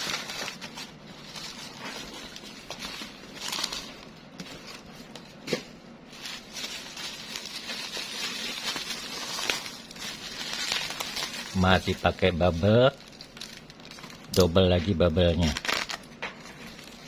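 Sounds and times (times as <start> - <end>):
bubble wrap crinkling: 0.0 - 5.5, 6.1 - 17.0.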